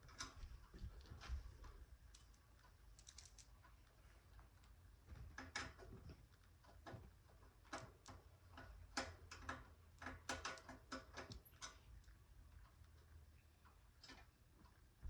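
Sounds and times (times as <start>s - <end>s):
light clicks and taps of parts: 0.1s - 14.8s.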